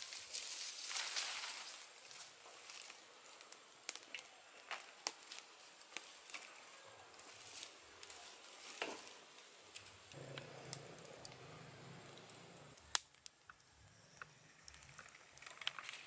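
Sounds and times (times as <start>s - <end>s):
campfire crackling and popping: 0.0s - 16.0s
faint fire hiss: 0.0s - 16.0s.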